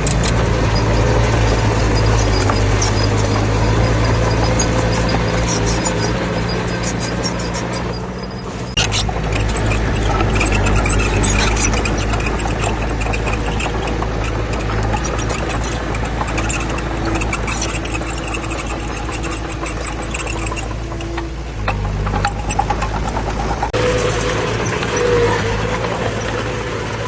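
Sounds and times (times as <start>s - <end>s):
dense rattle: 0.0s - 27.0s
heavy diesel engine running: 0.0s - 27.0s.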